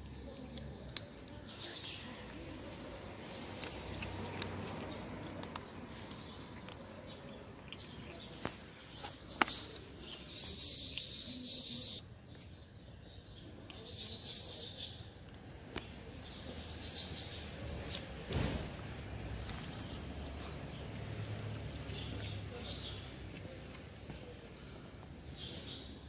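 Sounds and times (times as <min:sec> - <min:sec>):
small birds chirping: 0:00.0 - 0:18.3, 0:19.0 - 0:26.0
outdoor background noise: 0:00.0 - 0:26.0.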